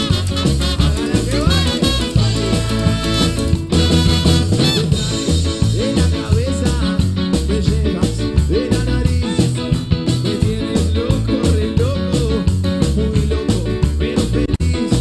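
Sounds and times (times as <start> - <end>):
person singing into microphone: 0.0 - 3.4, 4.6 - 15.0
live dance band playing: 0.0 - 15.0.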